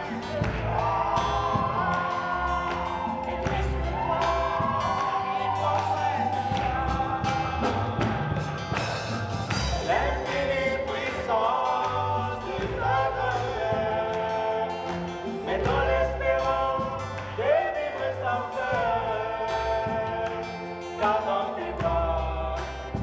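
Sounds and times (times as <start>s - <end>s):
drums: 0.0s - 23.0s
man singing: 0.0s - 23.0s.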